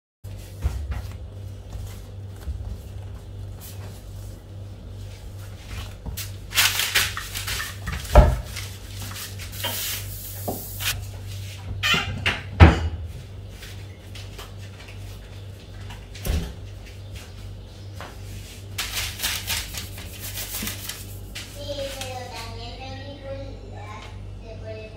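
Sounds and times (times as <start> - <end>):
rustling and scraping: 0.3 - 11.8, 13.0 - 22.7
low steady hum: 0.3 - 24.9.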